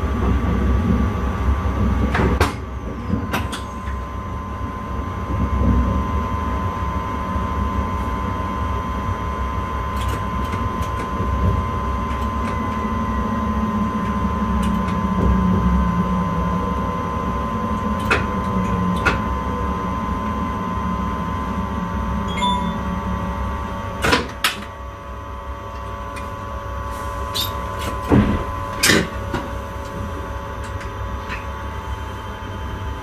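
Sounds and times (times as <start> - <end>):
electrical hum: 0.0 - 33.0
train running rumble: 0.0 - 33.0.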